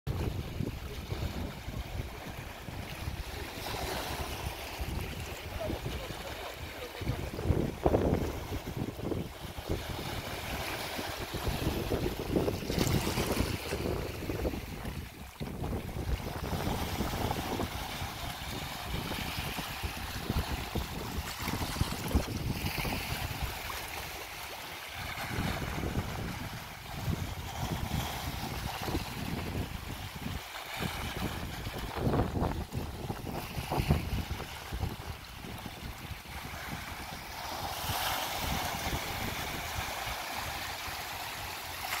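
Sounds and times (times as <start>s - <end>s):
wind buffeting microphone: 0.1s - 24.2s, 24.9s - 41.4s
small waves hissing over rocks: 0.4s - 35.6s, 36.2s - 42.0s.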